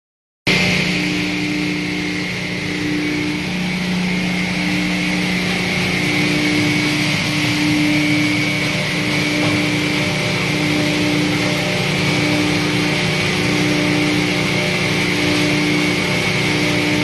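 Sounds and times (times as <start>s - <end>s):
hammer mill running: 0.5s - 17.0s.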